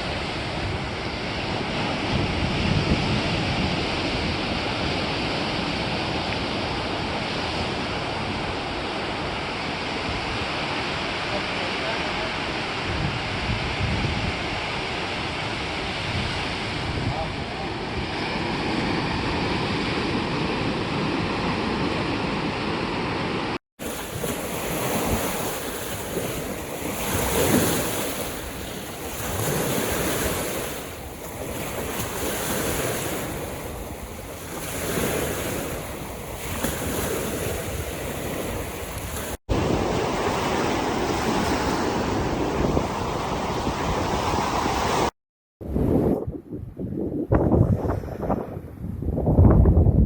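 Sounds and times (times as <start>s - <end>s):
ocean waves washing in: 0.0s - 45.1s.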